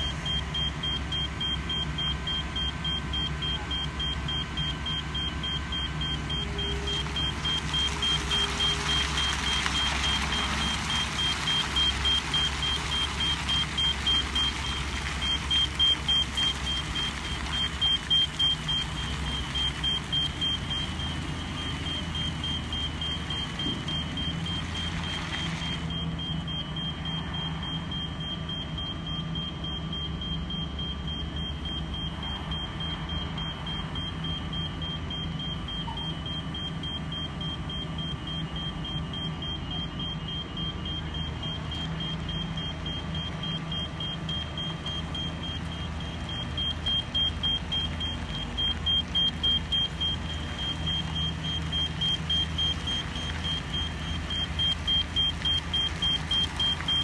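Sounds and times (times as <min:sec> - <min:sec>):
high-pitched warning beeper: 0:00.0 - 0:25.2, 0:25.9 - 0:56.8.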